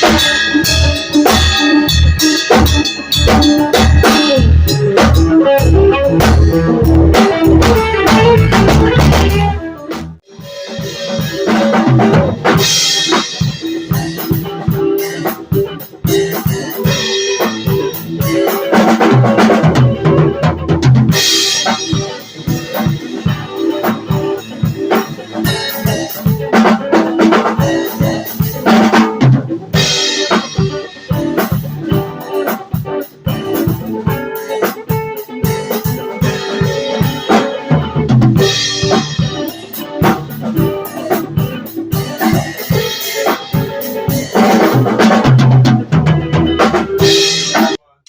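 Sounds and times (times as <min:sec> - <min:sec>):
live band playing: 0:00.0 - 0:47.8
drum kit beat: 0:00.0 - 0:48.0.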